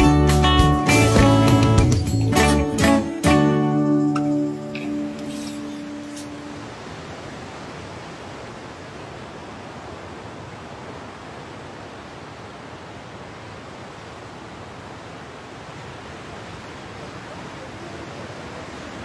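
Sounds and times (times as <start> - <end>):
sea surf: 0.0 - 19.0
wind: 2.1 - 19.0.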